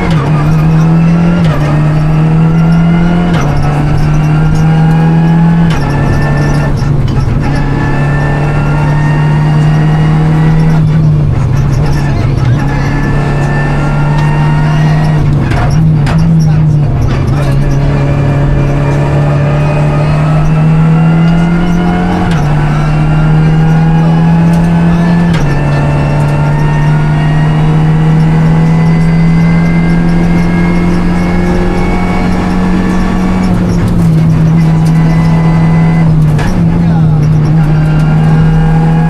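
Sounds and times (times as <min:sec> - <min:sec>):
car engine pulling under load: 0:00.0 - 0:39.0
gear changes: 0:00.0 - 0:39.0.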